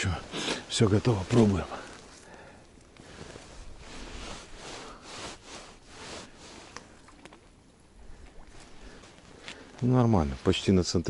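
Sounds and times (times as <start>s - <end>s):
faint rustling and scraping: 0.0s - 11.0s.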